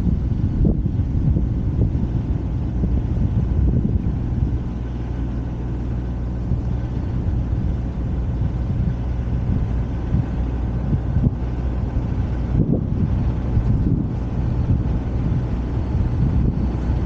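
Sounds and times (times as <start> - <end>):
vehicle engine rumble: 0.0 - 17.0
wind noise: 0.0 - 17.0.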